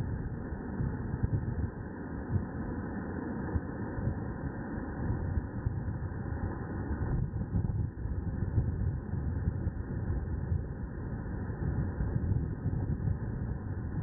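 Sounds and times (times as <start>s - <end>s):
wind buffeting microphone: 0.0s - 2.6s, 5.0s - 14.0s.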